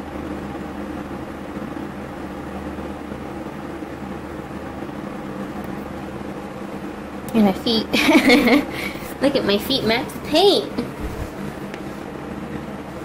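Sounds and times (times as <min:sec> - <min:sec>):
fan hum with hiss: 0:00.0 - 0:13.0.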